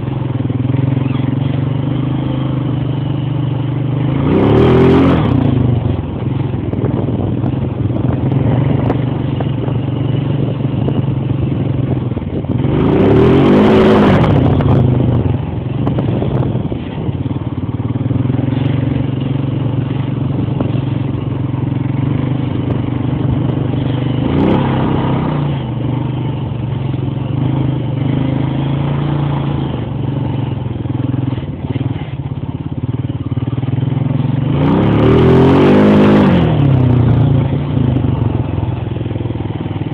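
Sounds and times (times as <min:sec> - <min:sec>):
engine revving: 0:00.0 - 0:32.2, 0:32.9 - 0:39.9
atv engine running: 0:00.0 - 0:39.9.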